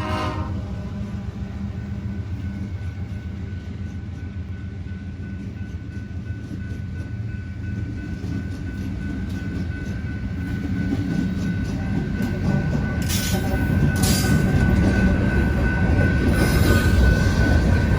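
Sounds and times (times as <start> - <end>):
freight train rumbling past: 0.0 - 17.9.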